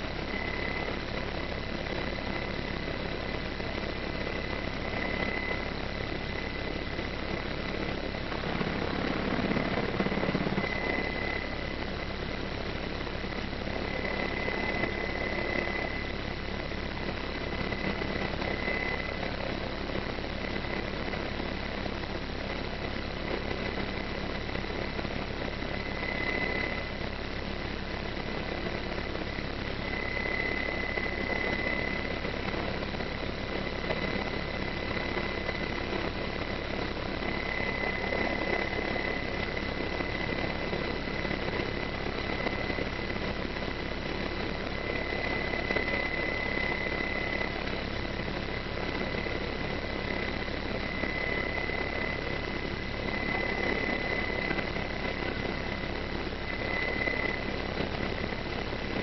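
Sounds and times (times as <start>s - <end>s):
helicopter engines and rotor: 0.0s - 59.0s
high whine: 0.0s - 59.0s.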